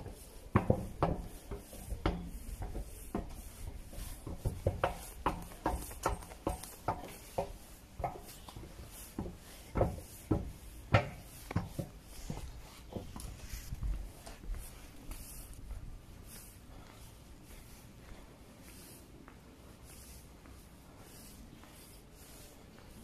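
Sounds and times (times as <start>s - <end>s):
footsteps on metal escalator treads: 0.0s - 23.0s.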